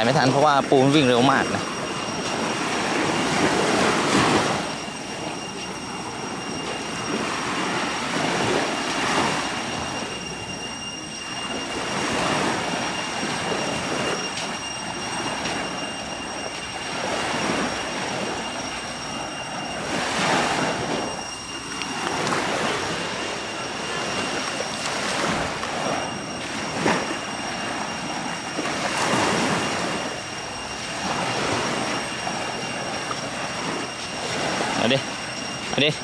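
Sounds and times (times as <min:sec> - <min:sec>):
sea waves on sandy beach: 0:00.0 - 0:36.0.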